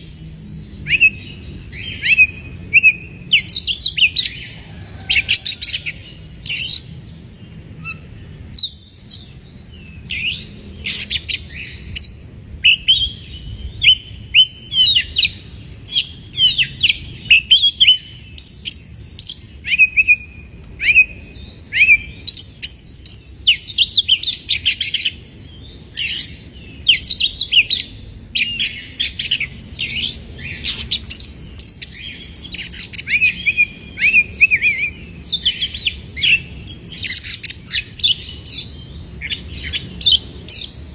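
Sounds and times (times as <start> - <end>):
bird singing whistles and trills: 0.0 - 7.2, 7.8 - 40.9.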